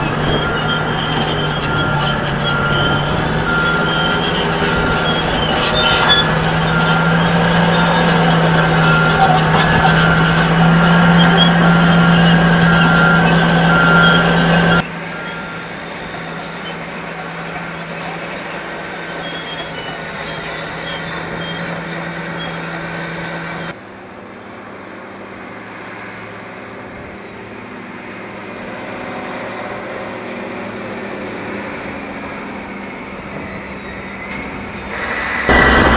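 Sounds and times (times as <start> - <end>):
heavy machine diesel engines: 0.0 - 35.9.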